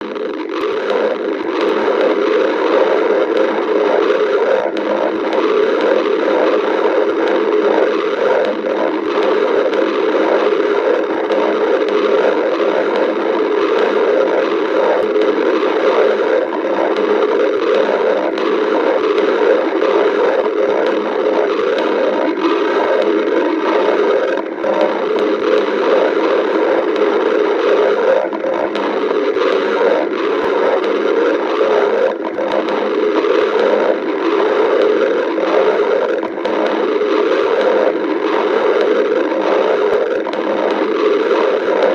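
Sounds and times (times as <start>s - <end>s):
stomach growling: 0.0s - 41.9s.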